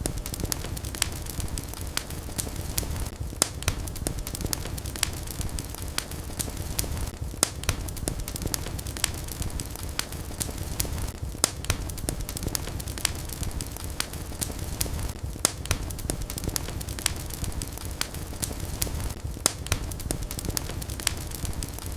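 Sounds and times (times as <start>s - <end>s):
low rush of flames: 0.0s - 21.9s
wood fire crackling: 0.0s - 21.9s.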